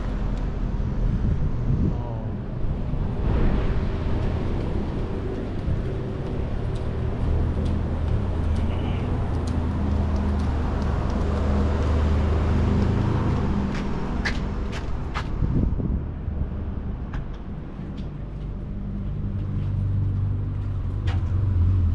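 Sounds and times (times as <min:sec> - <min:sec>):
road noise: 0:00.0 - 0:21.9
vehicle engine hum: 0:00.0 - 0:21.9.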